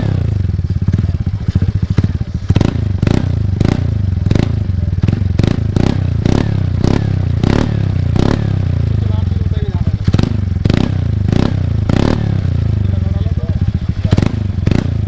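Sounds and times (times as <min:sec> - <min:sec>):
scooter engine revving and idling: 0:00.0 - 0:15.0.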